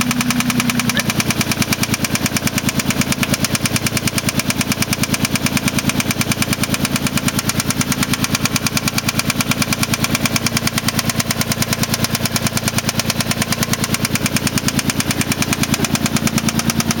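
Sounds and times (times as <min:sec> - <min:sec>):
car engine running: 0:00.0 - 0:17.0
engine knocking: 0:00.0 - 0:17.0.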